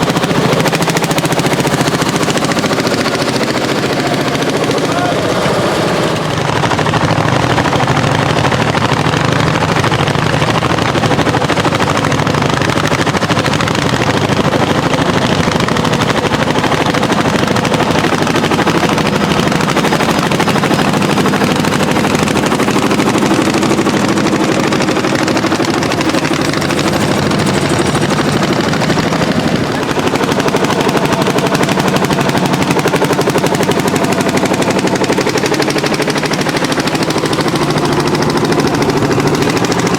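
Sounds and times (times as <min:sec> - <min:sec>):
tractor engine popping exhaust: 0:00.0 - 0:39.9.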